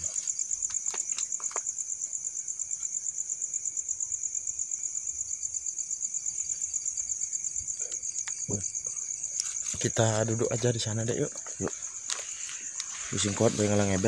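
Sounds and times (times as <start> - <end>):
cricket trilling: 0.0 - 14.0
faint insect tone: 0.0 - 14.0.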